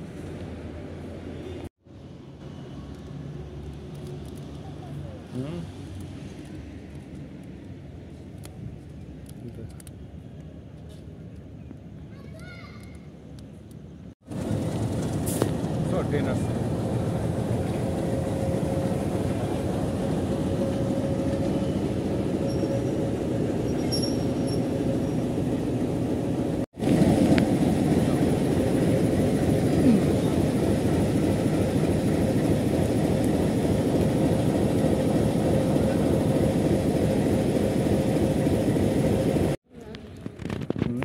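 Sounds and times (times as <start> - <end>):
diesel locomotive engine drone: 0.0 - 12.0, 13.3 - 41.0.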